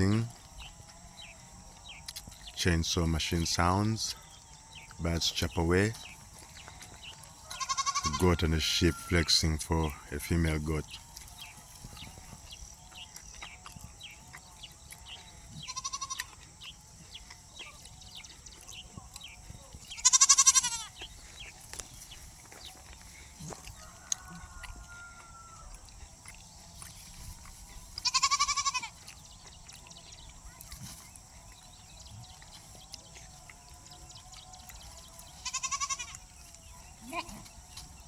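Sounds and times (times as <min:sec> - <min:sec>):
goats and sheep bleating: 0:00.0 - 0:01.8, 0:02.6 - 0:38.0.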